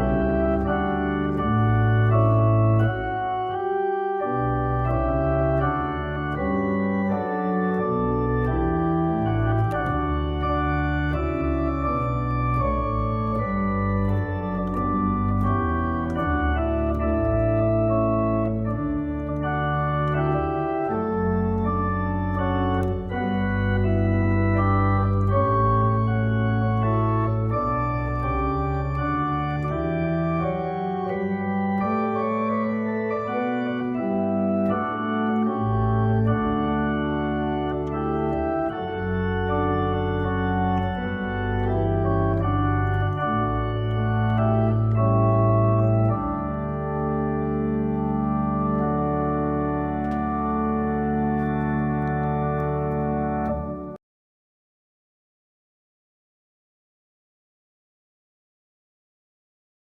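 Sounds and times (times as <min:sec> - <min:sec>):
deep organ bass notes: 0:00.0 - 0:54.0
organ chords: 0:00.0 - 0:54.0.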